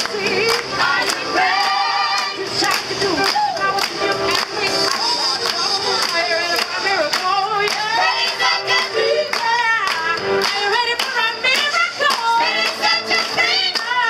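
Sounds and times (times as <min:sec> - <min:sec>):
choir singing: 0:00.0 - 0:10.9, 0:12.2 - 0:14.0
hands clapping steady beat: 0:00.0 - 0:14.0.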